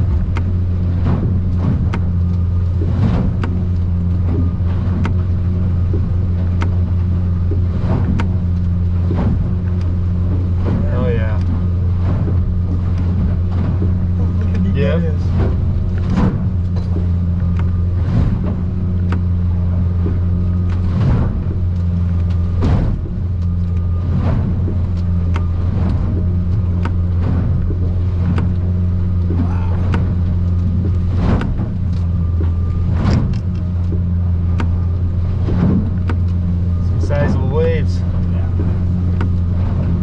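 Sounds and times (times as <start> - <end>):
hull slapping against waves: 0.0 - 40.0
outboard engine droning: 0.0 - 40.0.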